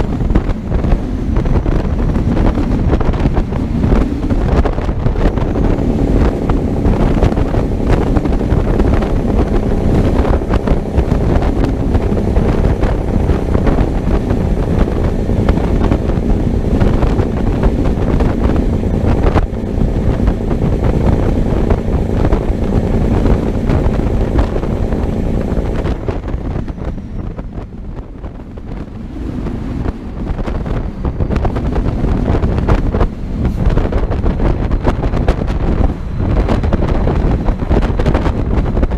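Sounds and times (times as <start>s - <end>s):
truck engine and road rumble: 0.0s - 38.9s
wind buffeting microphone: 0.0s - 38.9s.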